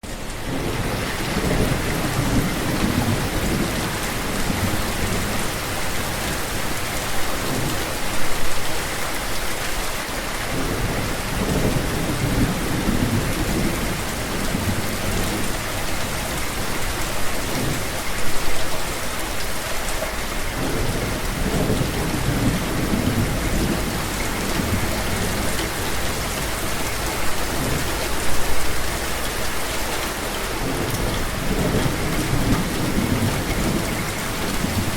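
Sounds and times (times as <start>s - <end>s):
heavy rain falling: 0.0s - 34.9s
thunder rumbling: 0.2s - 8.0s, 10.5s - 18.0s, 20.5s - 29.4s, 30.5s - 34.9s.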